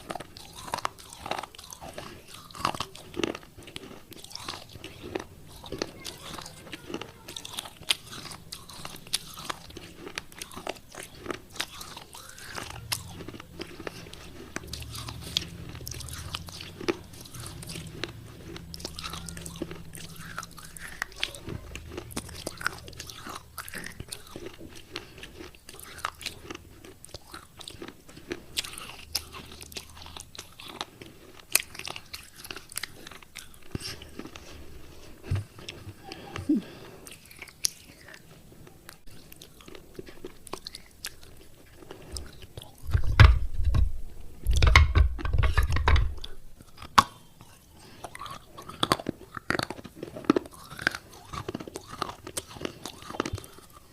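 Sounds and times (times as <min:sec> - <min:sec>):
person chewing crunchy clay: 0:00.0 - 0:53.9.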